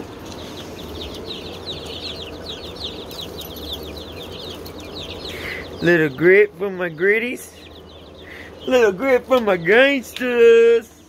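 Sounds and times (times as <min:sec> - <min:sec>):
baby chickens peeping: 0:00.0 - 0:11.0
steady low hum: 0:00.0 - 0:11.0.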